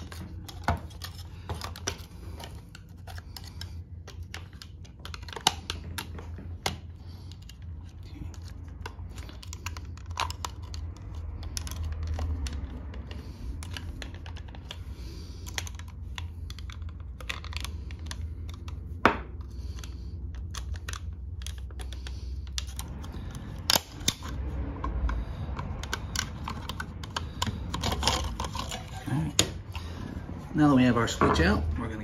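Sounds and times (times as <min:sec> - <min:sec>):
plastic clicks and scraping: 0:00.0 - 0:29.9.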